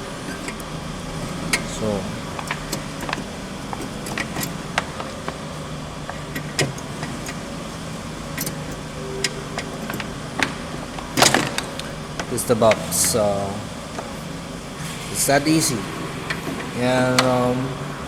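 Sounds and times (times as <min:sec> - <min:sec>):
clicking and scraping: 0:00.0 - 0:18.0.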